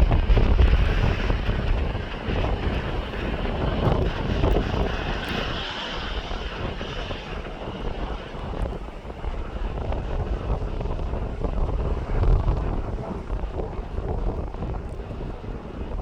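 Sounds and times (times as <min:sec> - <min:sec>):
airliner engine whine: 0:00.0 - 0:16.0
wind buffeting microphone: 0:00.0 - 0:16.0.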